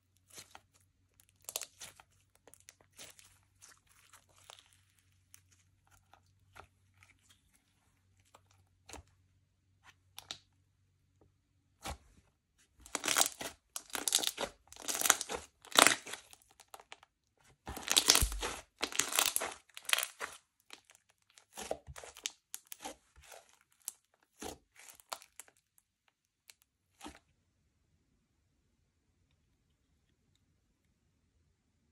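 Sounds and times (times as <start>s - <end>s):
slime squishing: 0.0s - 10.6s, 11.7s - 27.3s.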